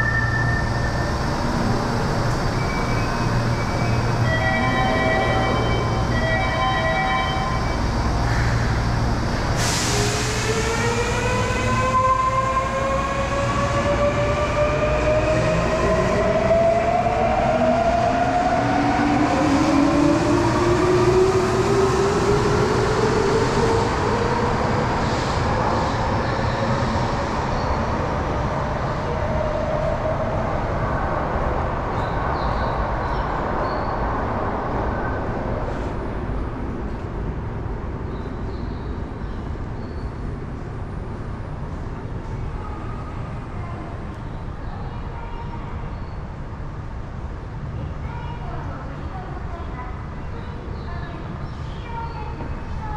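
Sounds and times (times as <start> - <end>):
low train rumble: 0.0 - 52.9.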